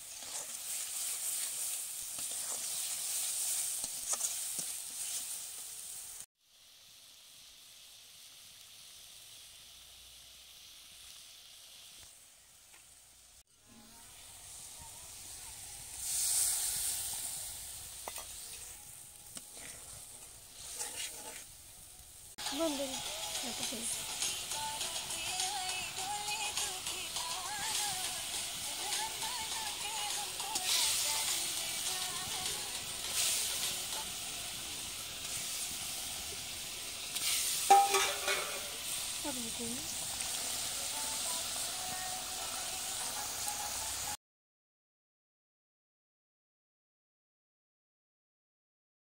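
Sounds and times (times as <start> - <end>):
hot oil sizzling: 0.0 - 44.2.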